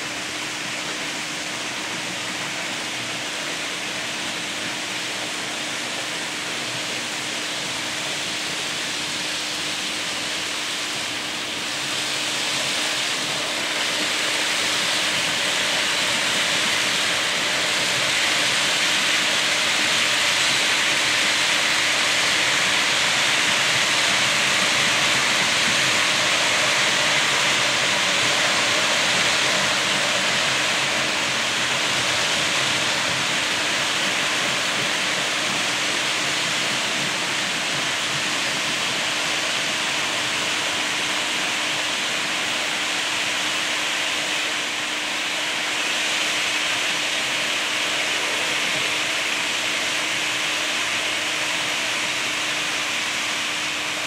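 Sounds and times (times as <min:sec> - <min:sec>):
model train wheels rumbling on track: 0:00.0 - 0:54.0
steady hum: 0:00.0 - 0:54.0.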